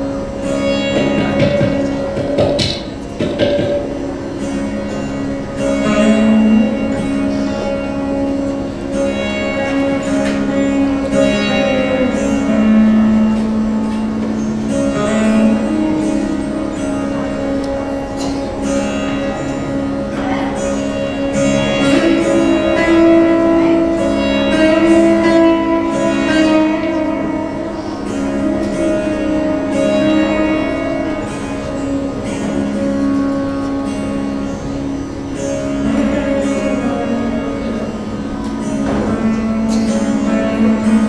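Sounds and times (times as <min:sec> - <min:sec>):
electric sitar melody: 0:00.0 - 0:41.0
steady drone: 0:00.0 - 0:41.0.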